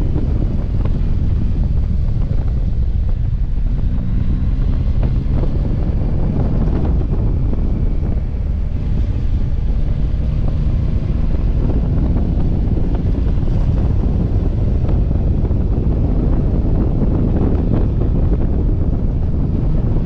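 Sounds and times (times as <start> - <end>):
motorcycle engine cruising: 0.0 - 20.0
wind rush on microphone: 0.0 - 20.0.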